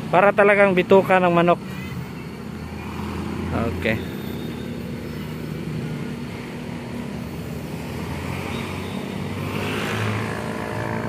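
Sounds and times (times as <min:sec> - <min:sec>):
car and motorcycle engines droning: 0:00.0 - 0:11.0.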